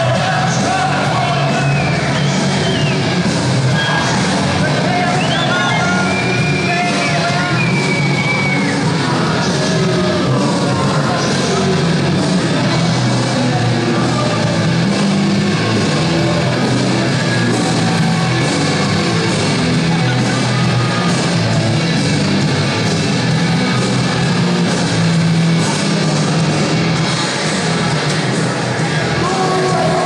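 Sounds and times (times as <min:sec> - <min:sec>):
loud hard rock music: 0:00.0 - 0:30.0.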